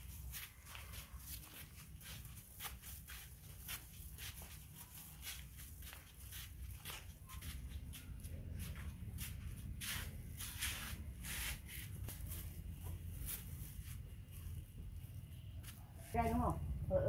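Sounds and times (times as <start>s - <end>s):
sandal footsteps on concrete: 0.0s - 14.1s.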